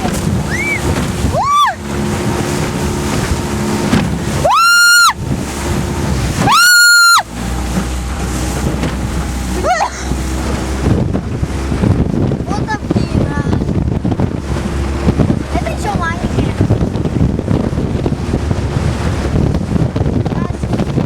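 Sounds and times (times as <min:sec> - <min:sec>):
outboard motor running: 0:00.0 - 0:21.0
wind buffeting microphone: 0:00.0 - 0:21.0.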